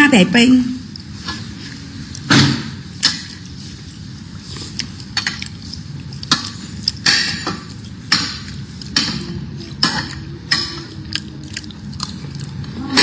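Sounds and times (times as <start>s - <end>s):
person chewing: 0.8s - 2.3s, 2.9s - 13.0s.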